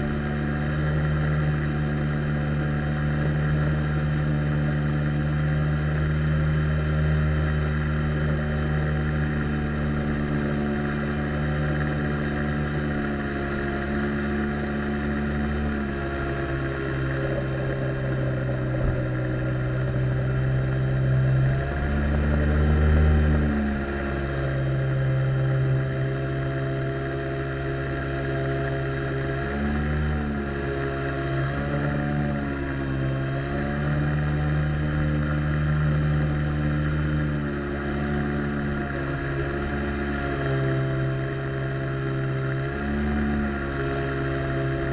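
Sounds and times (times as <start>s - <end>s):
outboard jet motor: 0.0s - 44.9s.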